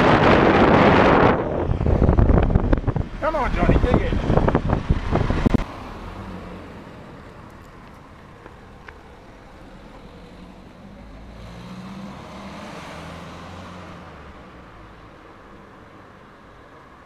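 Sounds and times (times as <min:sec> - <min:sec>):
tyre and road noise: 0:00.0 - 0:17.0.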